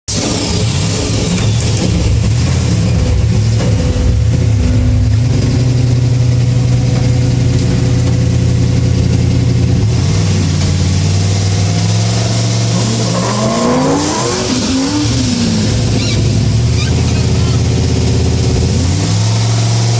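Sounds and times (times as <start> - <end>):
vee eight engines revving: 0.1 - 19.9.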